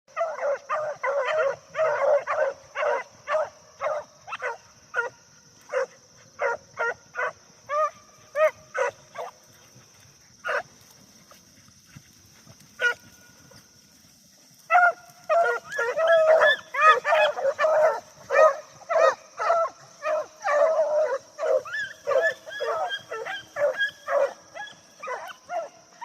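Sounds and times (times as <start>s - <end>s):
hounds barking: 0.1s - 10.9s, 12.8s - 13.5s, 14.5s - 26.0s.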